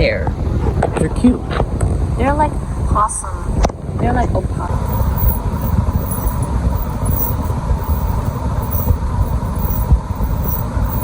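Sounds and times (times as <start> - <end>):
wind buffeting microphone: 0.3 - 11.0.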